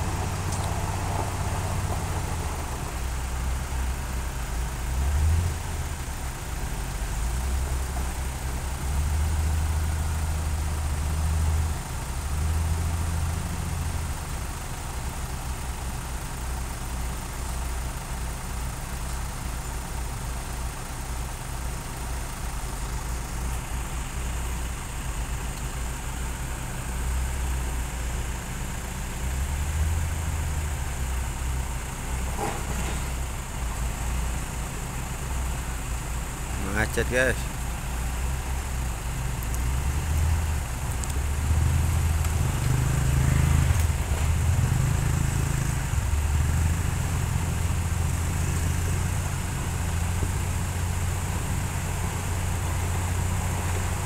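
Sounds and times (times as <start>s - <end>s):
road roller diesel engine idling: 0.0s - 54.0s.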